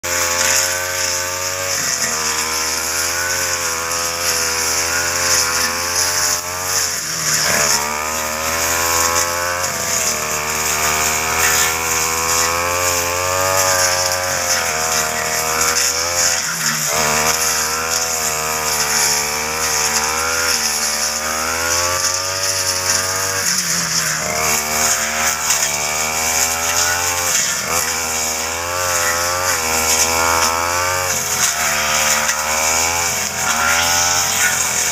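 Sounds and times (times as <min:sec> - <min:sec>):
brush cutter engine at high revs: 0:00.0 - 0:34.9.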